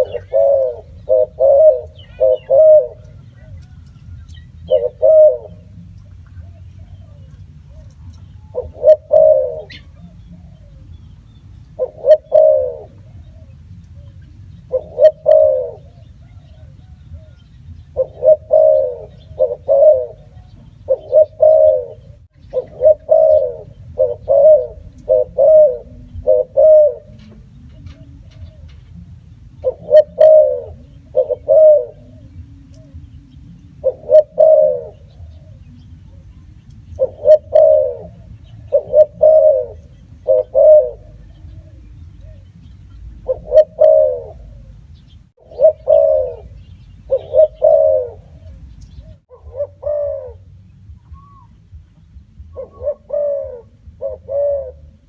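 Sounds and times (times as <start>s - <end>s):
dove cooing: 0.0s - 51.6s, 52.3s - 55.0s
steady low hum: 0.0s - 55.0s.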